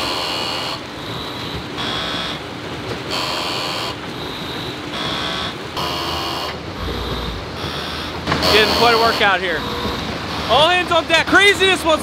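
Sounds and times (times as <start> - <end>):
concrete mixer pulsing: 0.0 - 12.0.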